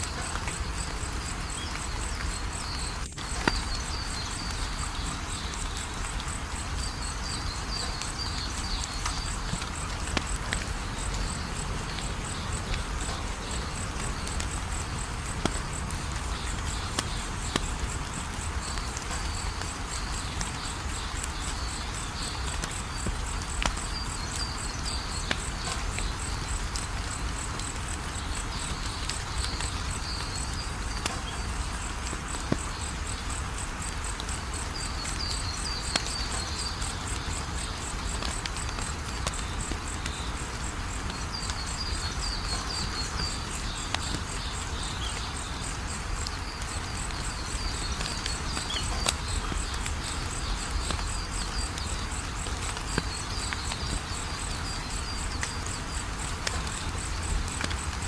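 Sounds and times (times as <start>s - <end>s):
insect-like chirping: 0.0s - 58.0s
wood fire crackling and popping: 0.0s - 58.0s.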